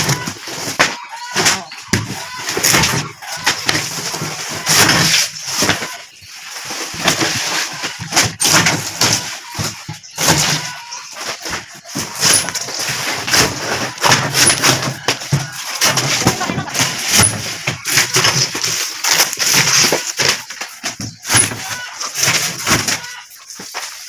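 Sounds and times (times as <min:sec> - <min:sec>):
veneer sheets rustling: 0:00.0 - 0:24.0.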